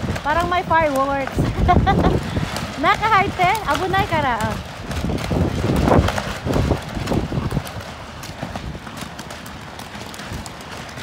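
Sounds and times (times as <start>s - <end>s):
wind gusting over microphone: 0.0s - 11.0s.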